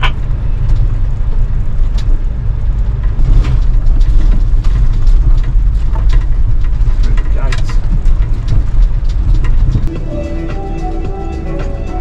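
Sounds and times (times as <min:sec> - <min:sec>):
rattles and knocks: 0:00.0 - 0:09.9
vehicle driving rumble: 0:00.0 - 0:12.0.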